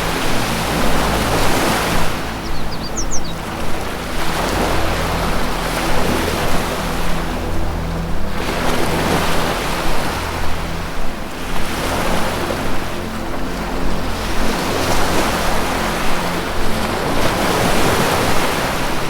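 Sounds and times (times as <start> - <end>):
low music drone: 0.0 - 19.0
ocean surf washing: 0.0 - 19.0.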